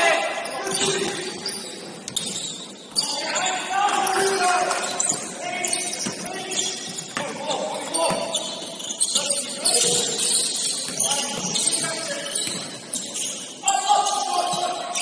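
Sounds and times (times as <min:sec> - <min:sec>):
sneakers squeaking on a floor: 0:00.0 - 0:15.0.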